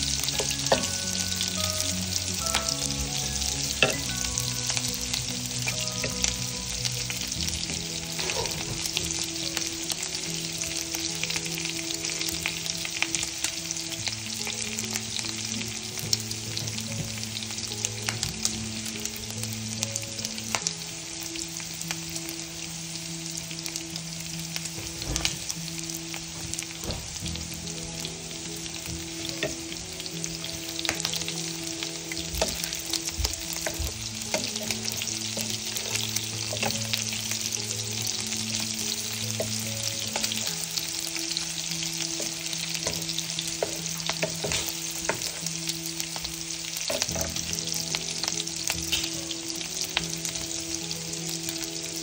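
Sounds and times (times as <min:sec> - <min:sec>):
sausage sizzling in oil: 0:00.0 - 0:52.0.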